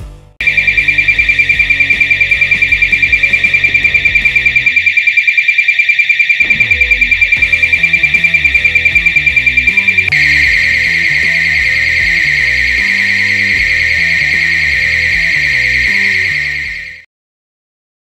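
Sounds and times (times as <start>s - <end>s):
pulsing high-pitched siren: 0.4s - 17.1s.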